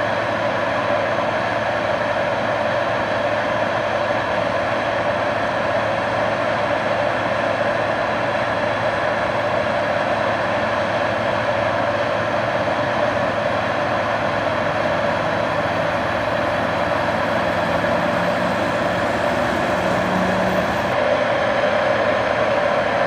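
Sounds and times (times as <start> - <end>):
heavy harvest machinery running: 0.1 - 23.0.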